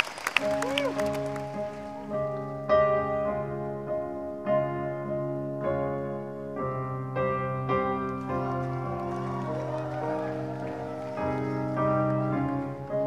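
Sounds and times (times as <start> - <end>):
piano chords ringing: 0.0 - 13.0.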